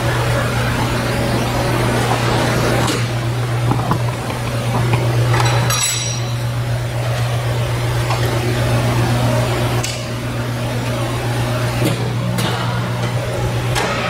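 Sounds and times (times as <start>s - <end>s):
shop machinery humming: 0.0s - 14.0s.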